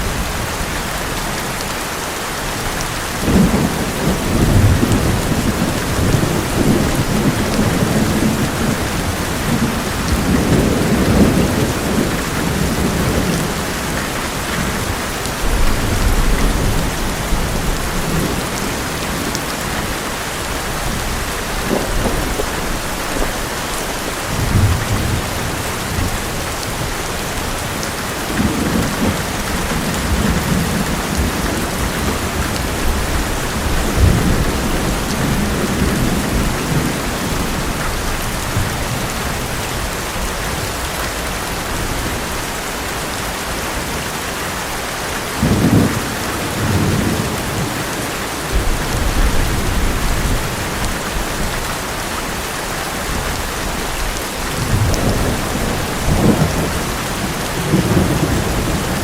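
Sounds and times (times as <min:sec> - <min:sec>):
rain drumming on metal roof: 0:00.0 - 0:59.0
thunder rumbling: 0:03.2 - 0:40.7, 0:45.4 - 0:52.4, 0:53.0 - 0:59.0.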